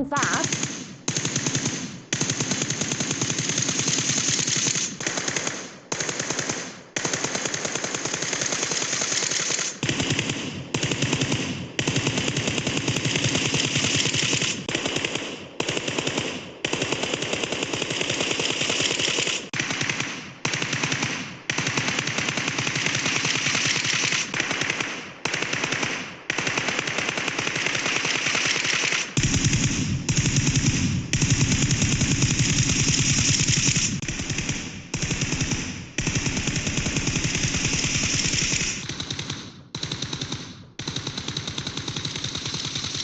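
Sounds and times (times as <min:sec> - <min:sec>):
automatic gunfire bursts: 0:00.0 - 0:43.0.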